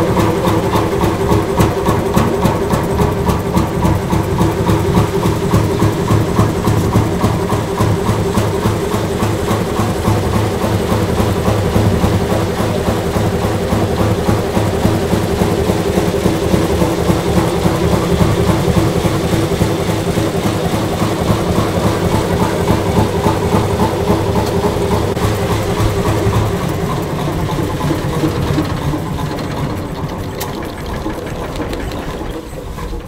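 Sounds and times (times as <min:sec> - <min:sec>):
stationary engine running: 0:00.0 - 0:33.0.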